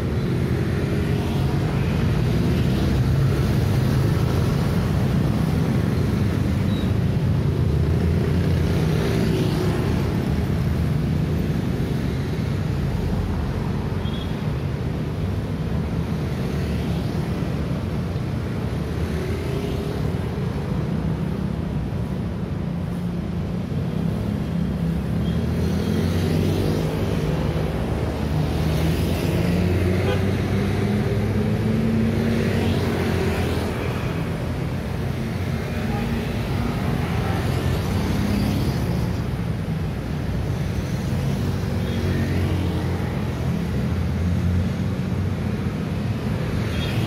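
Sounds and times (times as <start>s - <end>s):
cars passing: 0.0s - 47.0s
motorcycles passing: 0.0s - 47.0s.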